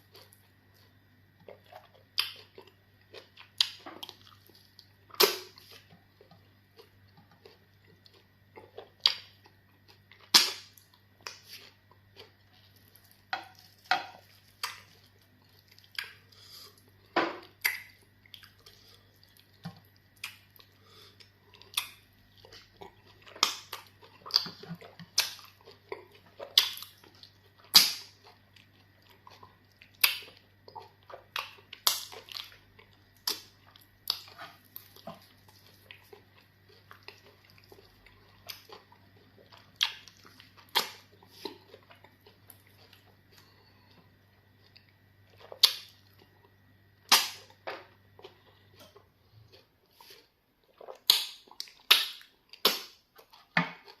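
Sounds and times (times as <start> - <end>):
faint steady hum: 0.0 - 54.0
mouth smacks and chewing: 0.1 - 54.0.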